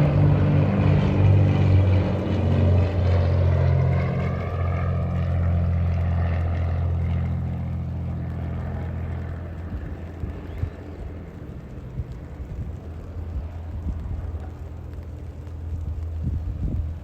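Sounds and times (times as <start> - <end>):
aircraft droning overhead: 0.0 - 17.0.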